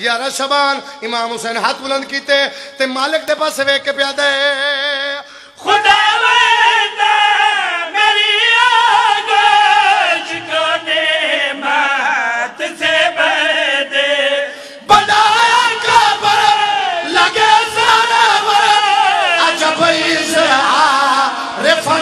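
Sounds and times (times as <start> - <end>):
man chanting into microphone: 0.0 - 14.3, 14.9 - 22.0.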